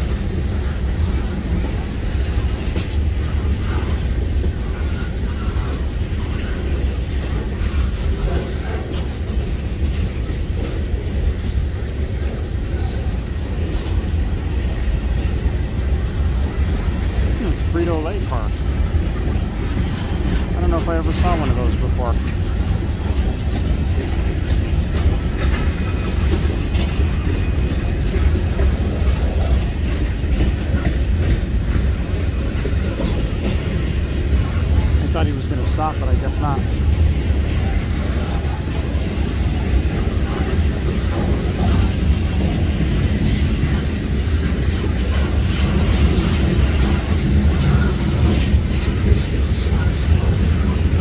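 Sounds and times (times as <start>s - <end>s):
freight train wheels rumbling: 0.0s - 51.0s
wheels clicking over rail joints: 0.0s - 51.0s.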